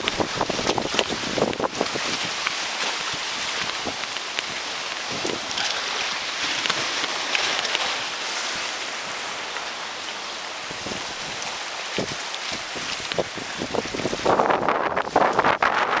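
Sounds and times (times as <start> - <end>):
gusty wind on microphone: 0.0 - 9.4, 10.5 - 16.0
waves washing against shore: 0.0 - 16.0.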